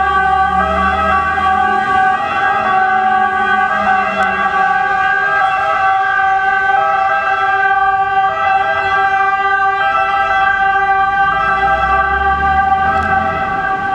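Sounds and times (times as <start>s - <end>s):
two-tone fire engine siren: 0.0s - 13.9s.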